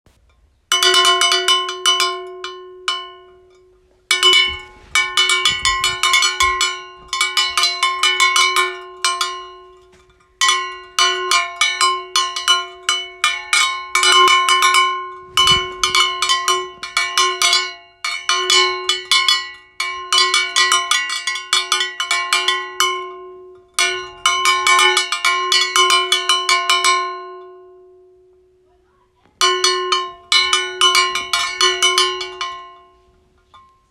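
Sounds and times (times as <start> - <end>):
metallic bell strikes: 0.7 - 28.2, 29.4 - 33.7.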